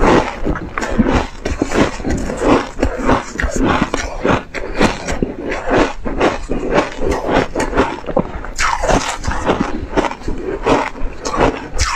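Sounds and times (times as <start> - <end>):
ice chips crunching when chewed: 0.0 - 11.9.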